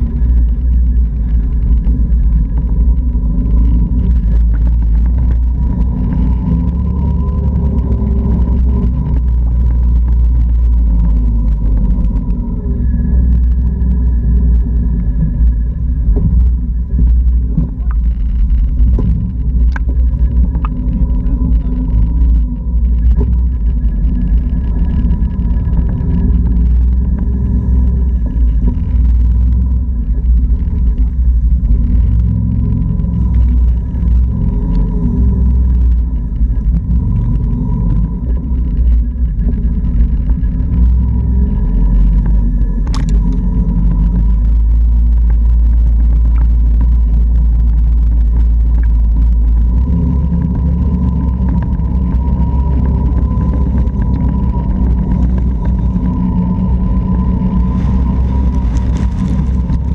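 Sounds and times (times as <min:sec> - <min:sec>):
atv engine running: 0:00.0 - 0:59.9
thin steady whine: 0:00.0 - 0:59.9.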